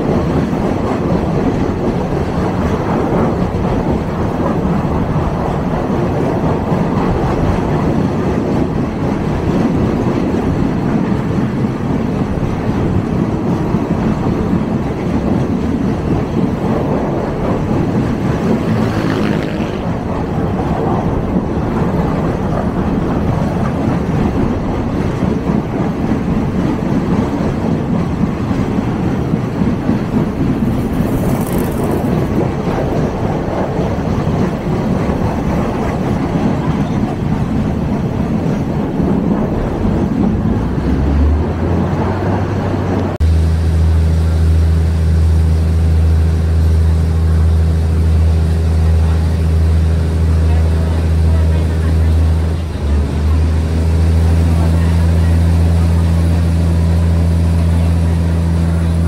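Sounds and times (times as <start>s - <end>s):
train rumbling on tracks: 0.0s - 59.0s.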